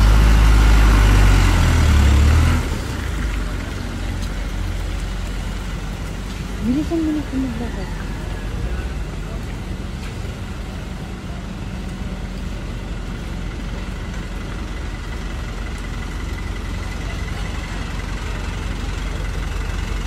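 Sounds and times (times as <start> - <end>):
traffic engines idling: 0.0 - 20.0.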